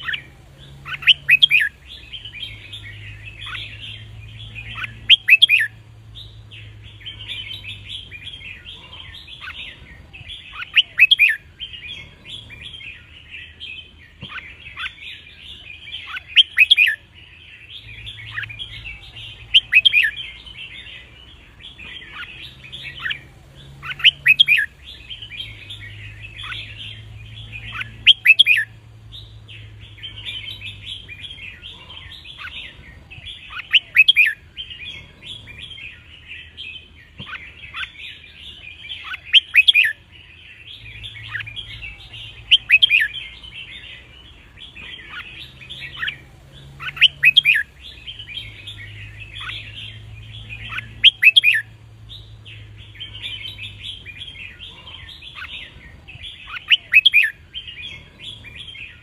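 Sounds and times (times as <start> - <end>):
bird song phrases: 0.0 - 59.0
birds chirping chatter: 0.0 - 59.0.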